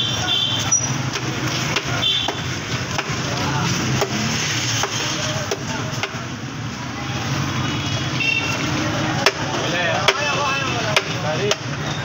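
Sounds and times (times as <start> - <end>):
background voices and bustle: 0.0 - 12.0.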